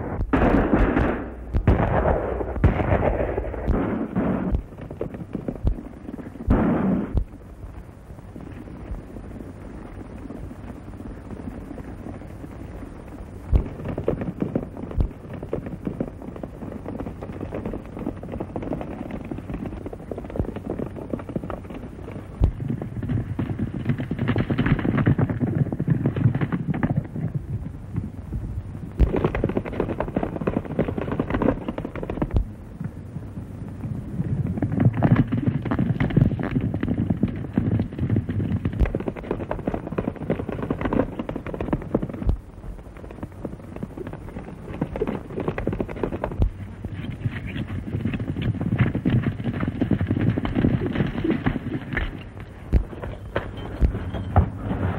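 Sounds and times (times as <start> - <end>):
sharp cracks: 0.0 - 7.9, 13.0 - 28.2, 28.9 - 54.9
horses galloping: 0.3 - 7.5, 8.1 - 54.9.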